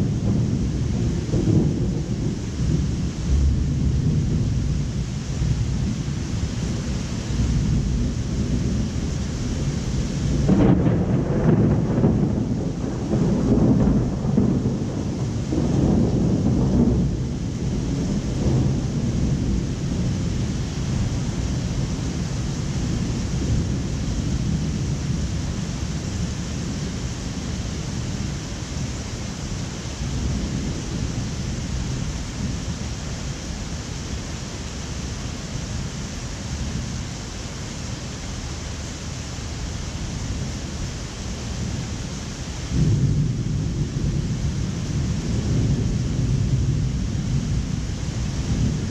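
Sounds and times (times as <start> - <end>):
thunder rumbling: 0.0 - 37.9, 38.7 - 48.9
heavy rain hissing: 0.0 - 48.9.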